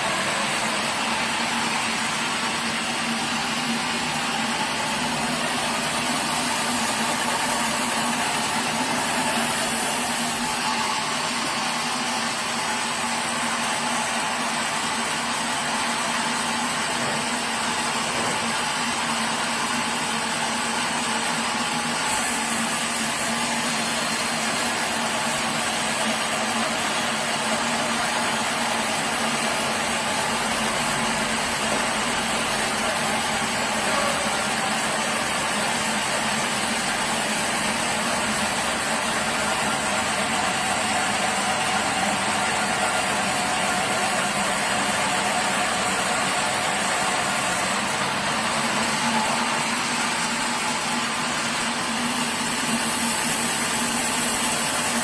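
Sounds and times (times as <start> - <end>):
sawmill machinery whirring: 0.0 - 55.0.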